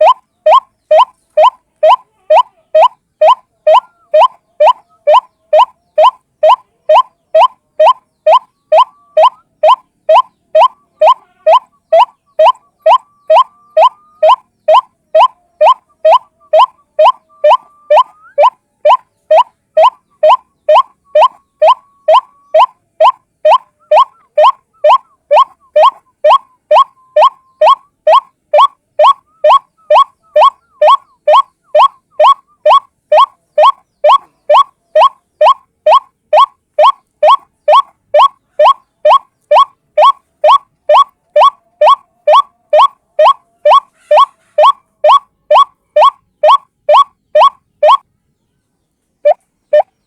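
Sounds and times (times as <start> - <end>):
bird repeating short rising note: 0.0 - 48.0.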